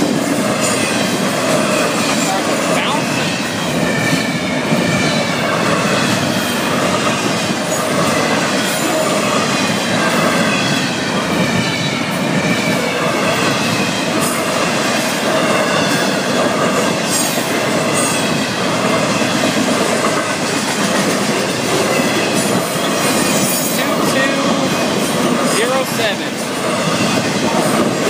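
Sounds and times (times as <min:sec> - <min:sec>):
crossing bells ringing: 0:00.0 - 0:06.0, 0:07.0 - 0:28.0
freight train wheels rumbling: 0:00.0 - 0:28.0
train wheel squeal: 0:00.0 - 0:28.0.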